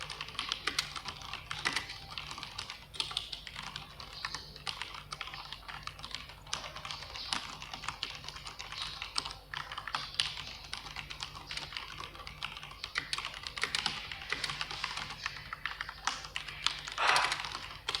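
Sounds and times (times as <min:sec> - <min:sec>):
fast typing on mechanical keyboard: 0:00.0 - 0:18.0.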